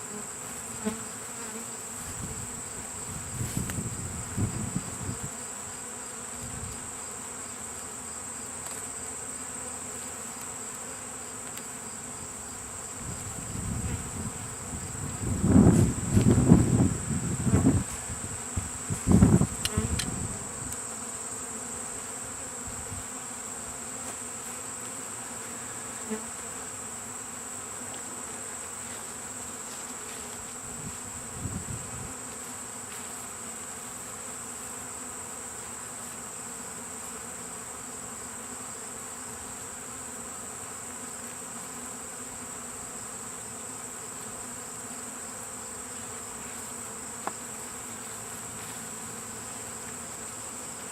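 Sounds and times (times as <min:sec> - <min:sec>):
honeybee swarm buzzing: 0:00.0 - 0:50.9.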